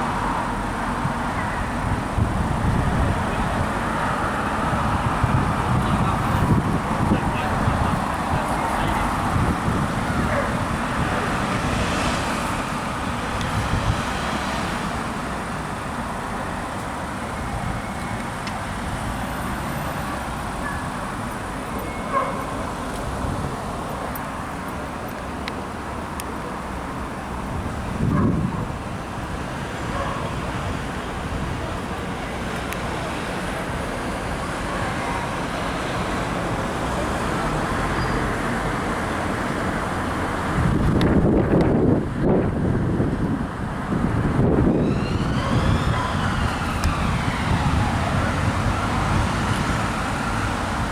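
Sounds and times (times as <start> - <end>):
road traffic passing: 0.0 - 50.9.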